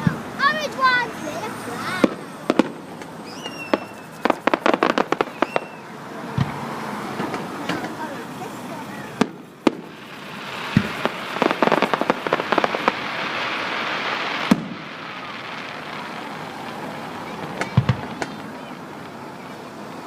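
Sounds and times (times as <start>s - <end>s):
fireworks bangs: 0.0s - 19.5s
fireworks crackling pops: 0.0s - 20.0s
fireworks hiss: 0.1s - 20.0s.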